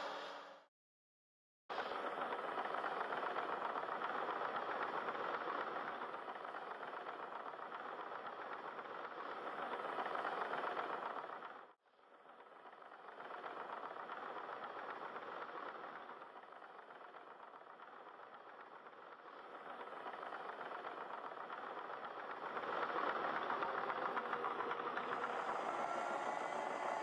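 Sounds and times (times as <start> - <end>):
dozer diesel engines under load: 1.7 - 27.0.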